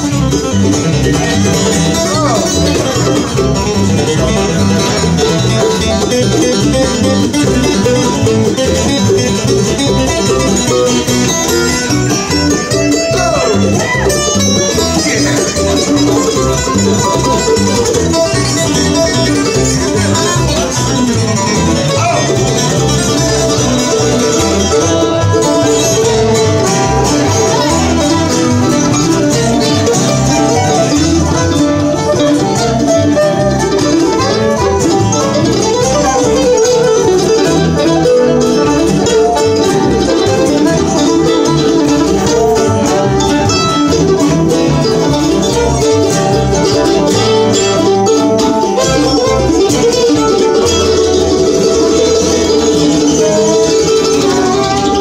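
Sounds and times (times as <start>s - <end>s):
fiddle: 0.0s - 55.0s
mandolin: 0.0s - 55.0s
slide resonator guitar: 0.0s - 55.0s
strummed acoustic guitar: 0.0s - 55.0s.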